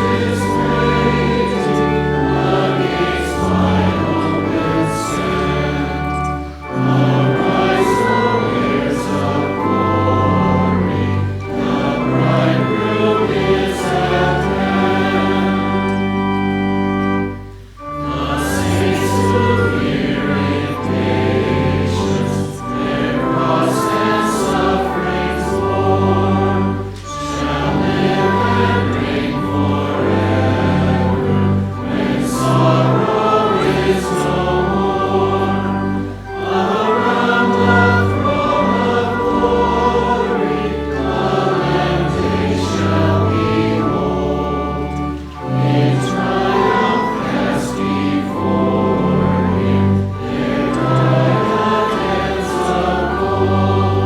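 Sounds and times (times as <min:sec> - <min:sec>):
low held accompaniment: 0:00.0 - 0:54.0
voices singing a hymn: 0:00.0 - 0:54.0.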